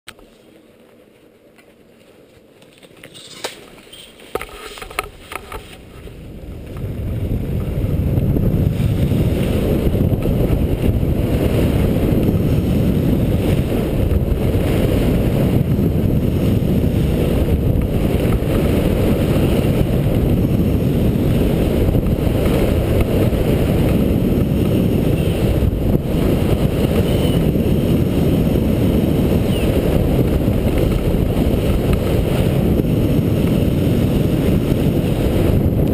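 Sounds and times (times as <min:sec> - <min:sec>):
skis scraping on snow: 0:00.2 - 0:35.6
wind rushing over microphone: 0:04.4 - 0:35.9.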